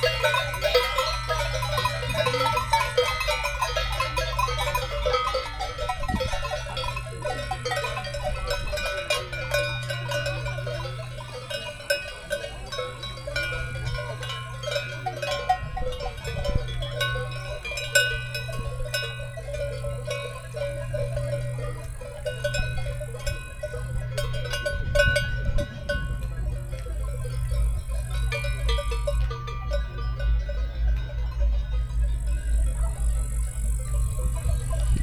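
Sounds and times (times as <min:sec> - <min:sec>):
cowbells clanking: 0:00.0 - 0:35.0.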